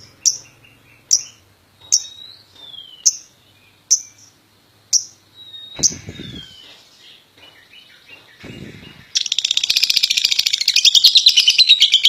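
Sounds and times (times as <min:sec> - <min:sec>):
lovebird chirping: 0:00.0 - 0:12.0.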